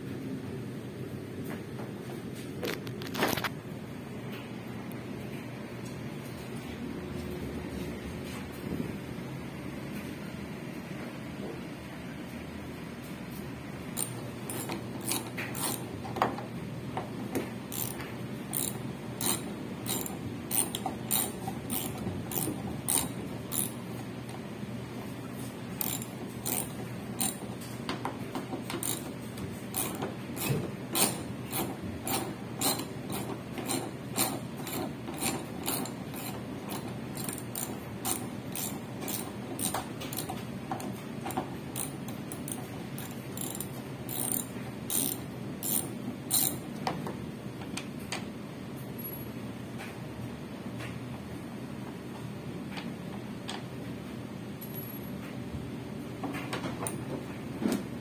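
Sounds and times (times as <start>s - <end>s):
mechanism humming: 0.0s - 58.0s.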